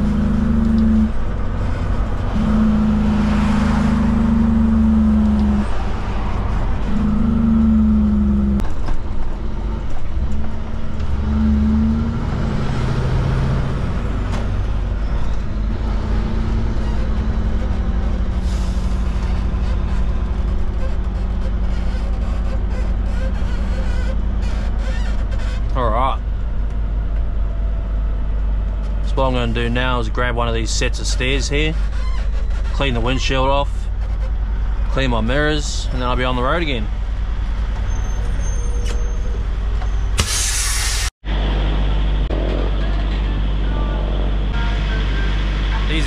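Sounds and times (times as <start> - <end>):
diesel truck engine from inside cab: 0.0 - 46.0.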